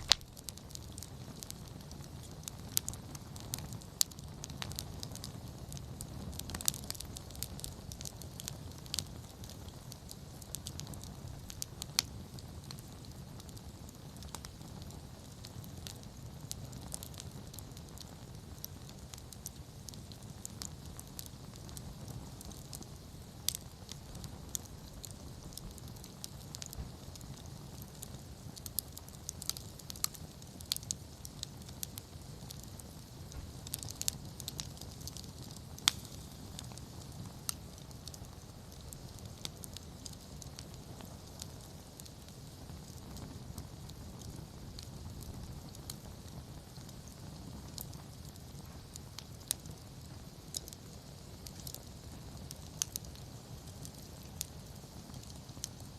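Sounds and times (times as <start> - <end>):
low rumble of flame: 0.0 - 55.9
wood fire crackling and popping: 0.0 - 55.9.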